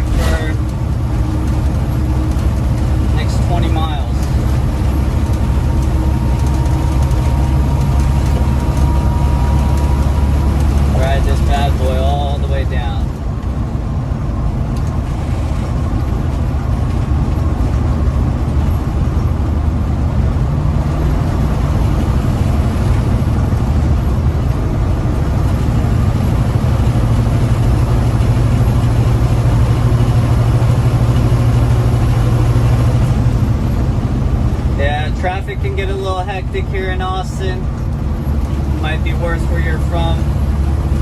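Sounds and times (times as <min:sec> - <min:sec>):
road noise: 0:00.0 - 0:41.0
truck diesel engine drone: 0:00.0 - 0:41.0.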